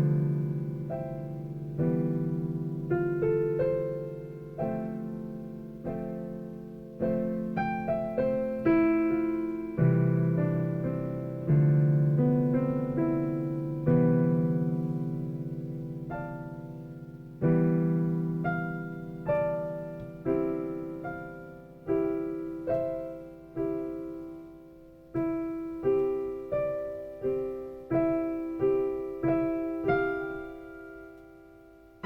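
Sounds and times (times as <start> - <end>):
slow solo piano: 0.0 - 32.0.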